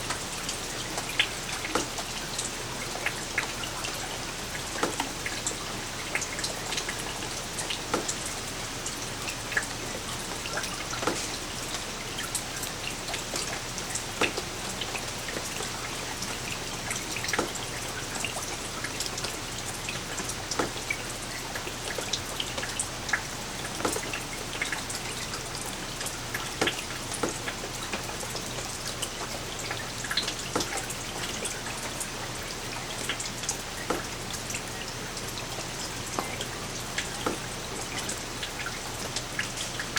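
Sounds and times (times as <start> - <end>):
light rain pattering on hard surface: 0.0 - 39.9.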